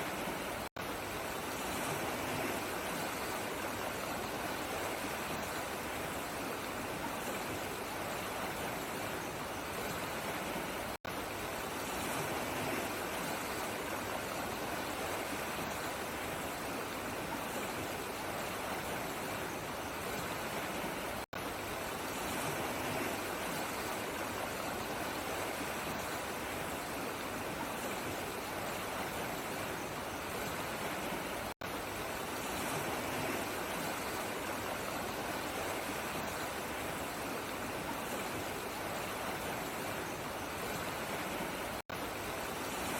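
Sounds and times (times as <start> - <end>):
running water rushing: 0.0 - 42.9.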